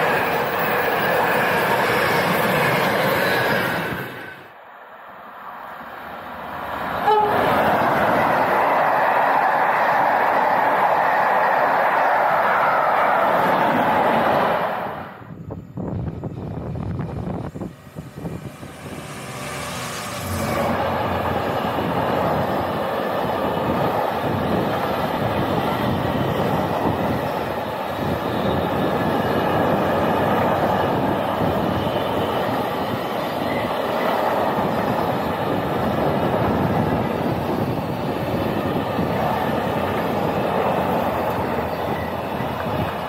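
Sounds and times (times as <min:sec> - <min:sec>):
train wheels on rails: 0:00.0 - 0:43.0.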